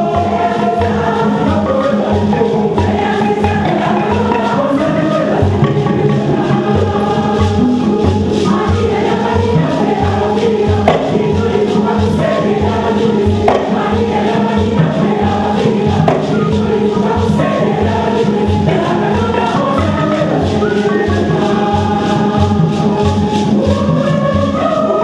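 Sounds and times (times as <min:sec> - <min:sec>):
hand drums beating: 0:00.0 - 0:25.0
mixed choir singing: 0:00.0 - 0:25.0.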